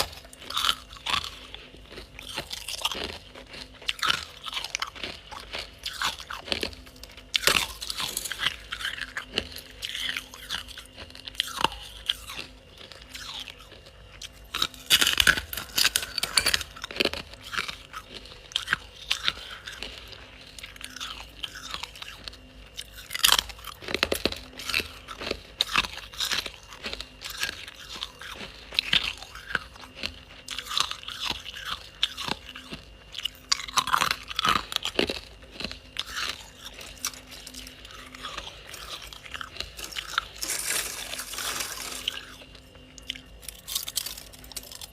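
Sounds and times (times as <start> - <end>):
ice being chewed: 0.0 - 44.9.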